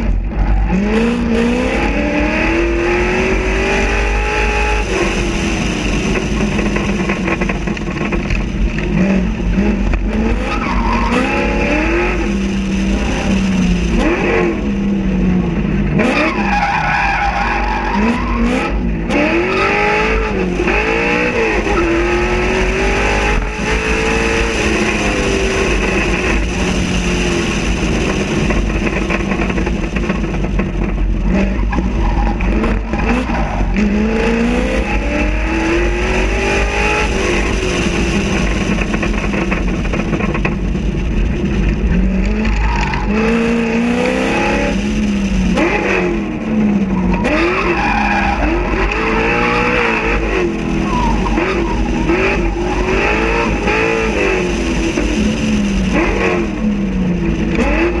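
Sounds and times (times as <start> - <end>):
car engine accelerating hard: 0.0 - 58.0
road and wind noise: 0.0 - 58.0.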